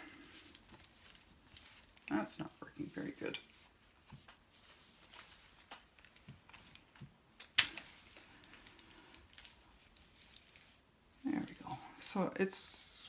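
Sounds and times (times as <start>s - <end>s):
fabric rustling: 0.0s - 13.0s.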